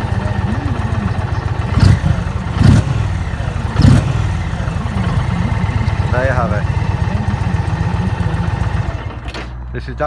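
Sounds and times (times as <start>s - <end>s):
motorcycle throttle blips: 0.0s - 9.4s
motorcycle engine idling: 0.0s - 10.0s.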